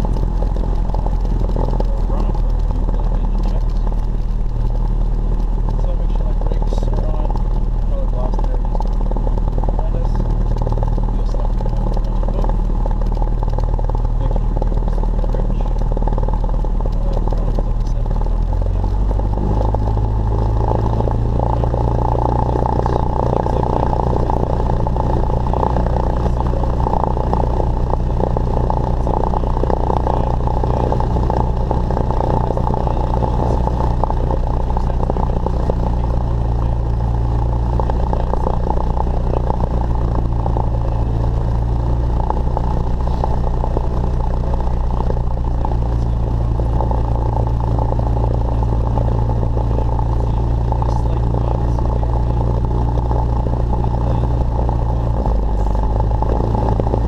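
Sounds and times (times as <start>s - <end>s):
propeller plane engine running: 0.0s - 57.0s.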